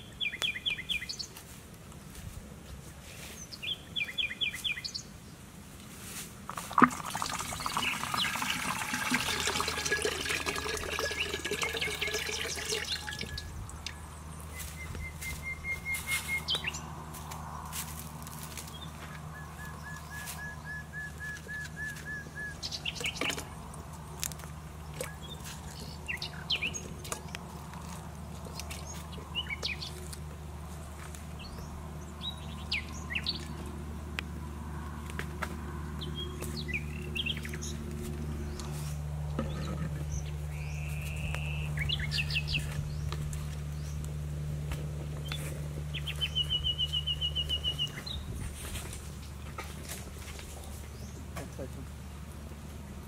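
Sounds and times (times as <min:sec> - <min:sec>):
wild birds chirping: 0:00.0 - 0:01.4, 0:03.2 - 0:05.4, 0:07.0 - 0:49.6.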